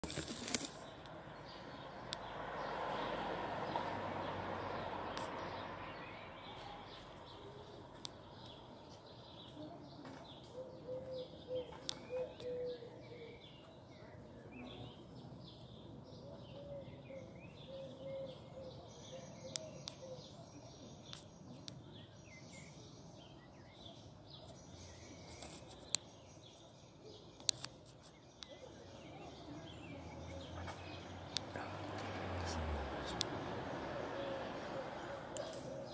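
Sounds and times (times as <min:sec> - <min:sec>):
small birds chirping: 0:00.0 - 0:04.0, 0:04.6 - 0:35.9.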